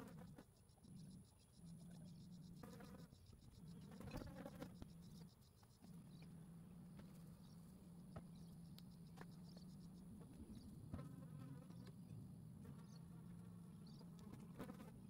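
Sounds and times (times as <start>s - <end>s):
honeybees buzzing: 1.9s - 15.0s.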